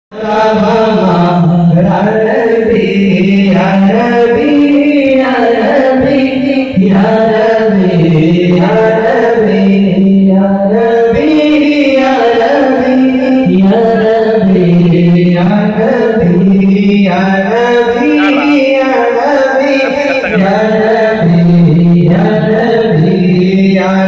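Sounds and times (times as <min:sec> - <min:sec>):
man chanting into a microphone: 0:00.1 - 0:24.0.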